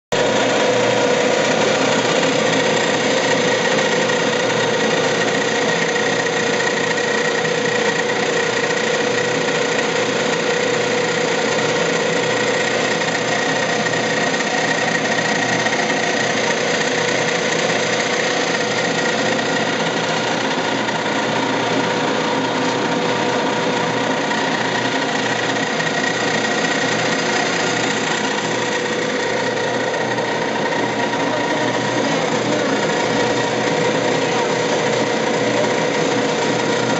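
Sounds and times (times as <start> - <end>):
coffee pulping machine running: 0.0 - 36.9.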